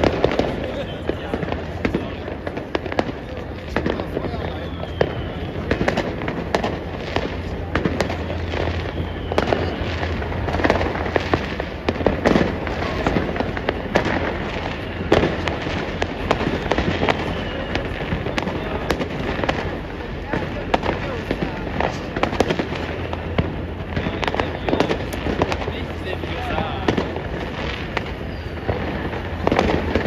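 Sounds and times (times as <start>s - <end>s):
fireworks bangs and crackles: 0.0s - 30.0s
fireworks falling whistle: 0.0s - 30.0s.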